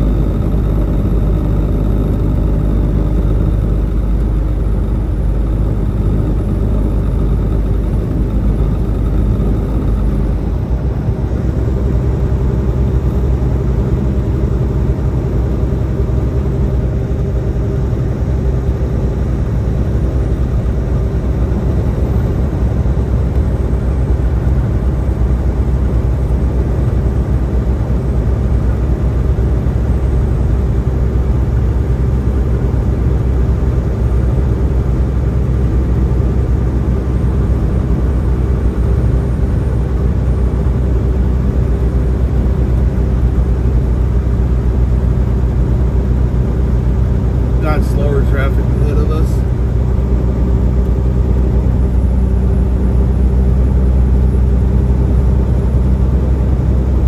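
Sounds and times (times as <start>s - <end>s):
truck engine and road noise droning: 0.0s - 57.0s.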